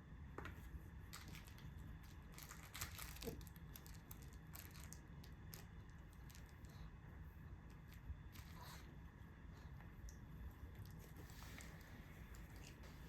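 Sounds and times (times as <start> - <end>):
low steady hum: 0.0 - 13.0
crinkling rustles and light ticks: 0.4 - 9.0, 9.6 - 13.0.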